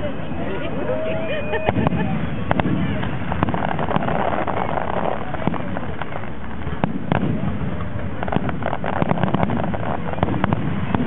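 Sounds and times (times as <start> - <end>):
fireworks bangs: 0.0 - 11.0
fireworks crackling pops: 1.5 - 11.0.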